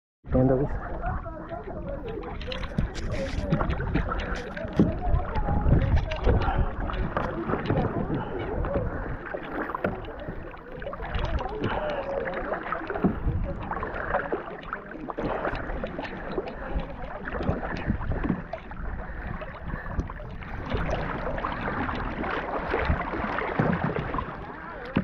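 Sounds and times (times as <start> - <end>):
water lapping against kayak hull: 0.3 - 25.0
paddle splashing in water: 0.4 - 25.0.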